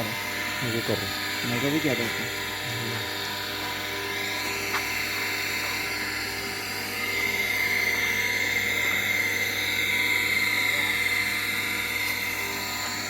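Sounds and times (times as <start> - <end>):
high-pitched whine: 0.0 - 13.0
machine motor humming: 0.0 - 13.0.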